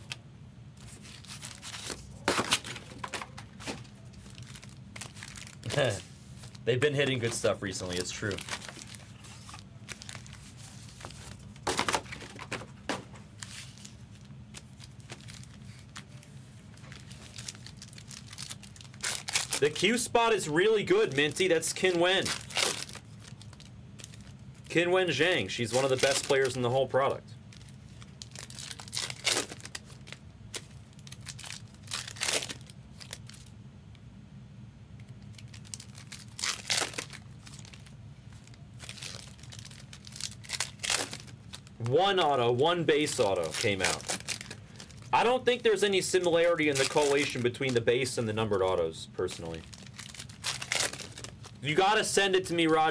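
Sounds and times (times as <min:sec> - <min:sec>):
foil packs crinkling: 0:00.8 - 0:33.5, 0:35.2 - 0:52.9.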